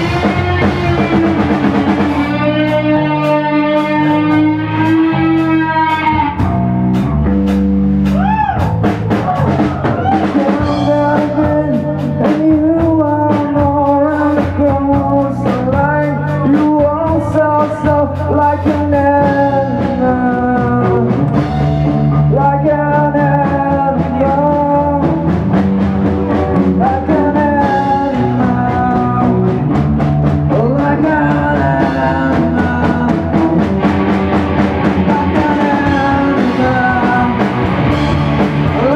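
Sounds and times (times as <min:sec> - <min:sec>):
electric guitar: 0:00.0 - 0:38.9
steady drum beat: 0:00.0 - 0:38.9.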